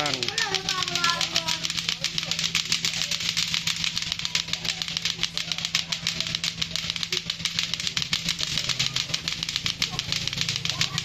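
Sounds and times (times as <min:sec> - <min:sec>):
clacker toy balls clacking: 0:00.0 - 0:11.0
steady low hum: 0:00.0 - 0:11.0.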